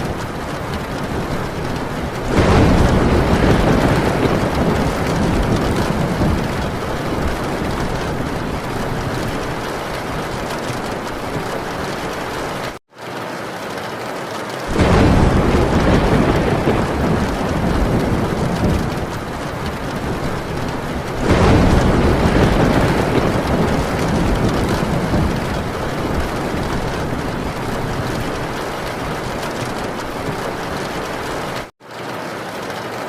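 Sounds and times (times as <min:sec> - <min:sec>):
thunder rumbling: 0:00.0 - 0:12.8, 0:14.7 - 0:31.7
heavy rain on a tin roof: 0:00.0 - 0:33.0.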